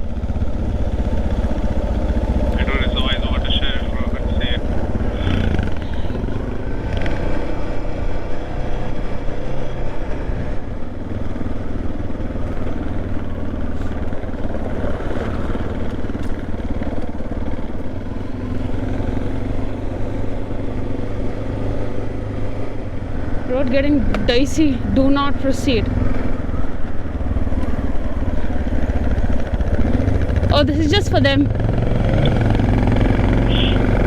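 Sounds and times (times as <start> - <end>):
motorcycle engine running: 0.0 - 34.0
road noise: 0.0 - 34.0.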